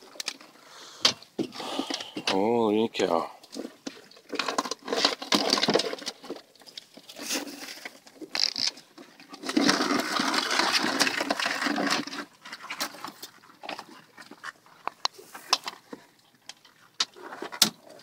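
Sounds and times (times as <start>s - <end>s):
crabs scraping and rustling: 3.4s - 18.0s.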